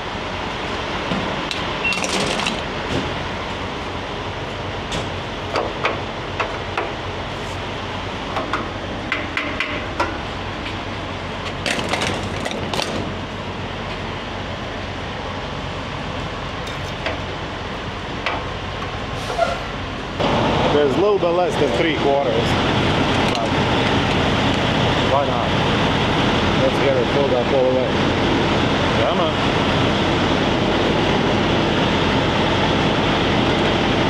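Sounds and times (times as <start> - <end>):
fuel pump rushing hum: 0.0 - 34.0.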